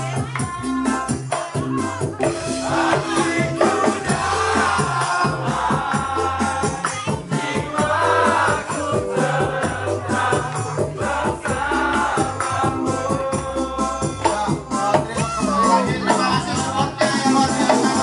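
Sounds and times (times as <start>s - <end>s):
person singing: 0.0s - 11.0s, 11.8s - 18.0s
bass line: 0.0s - 18.0s
shaker percussion: 0.0s - 18.0s
steady beat: 0.0s - 18.0s.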